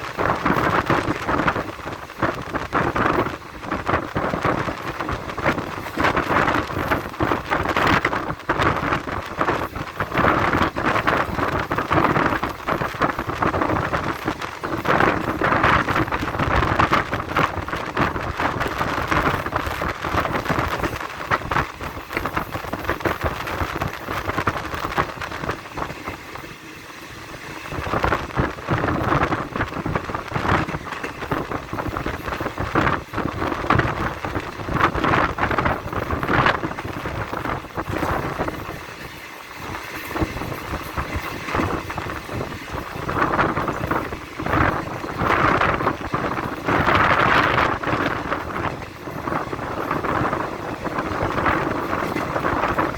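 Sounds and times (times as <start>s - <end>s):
train rumble with wind: 0.0s - 52.9s.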